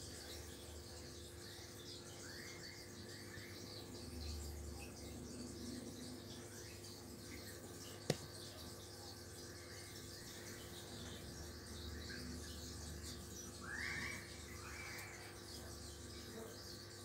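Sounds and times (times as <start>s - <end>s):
aquarium filter and air pump hum: 0.0s - 17.0s
faint high chirping: 0.0s - 17.0s.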